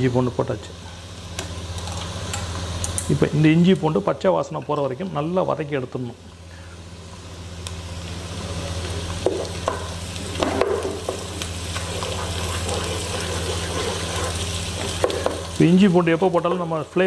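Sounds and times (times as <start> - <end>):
onions sizzling in hot oil: 0.0 - 17.0
steady low hum: 0.0 - 17.0.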